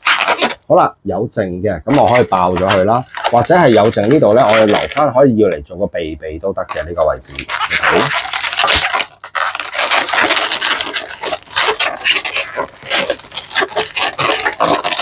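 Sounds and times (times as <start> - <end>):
sharp balloon crack: 0.0 - 0.6, 1.9 - 5.1, 6.7 - 15.0
balloons rubbing and squeaking: 0.0 - 0.9, 1.5 - 15.0.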